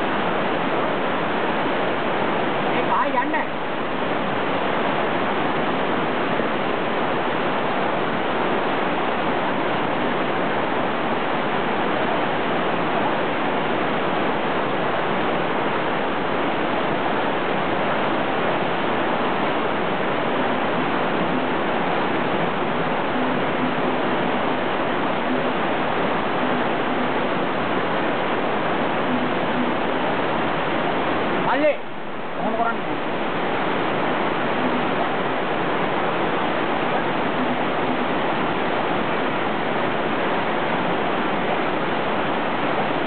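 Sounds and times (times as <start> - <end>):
river water rushing past rocks: 0.0 - 43.0.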